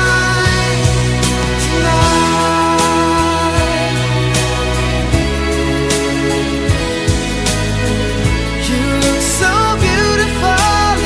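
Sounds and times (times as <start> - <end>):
slow instrumental love ballad: 0.0 - 11.0.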